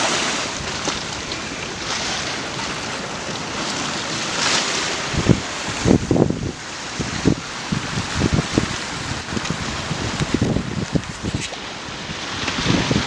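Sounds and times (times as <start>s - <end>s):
storm surf breaking: 0.0s - 13.0s
strong wind: 0.0s - 13.0s
wind gusts thumping microphone: 0.0s - 13.0s.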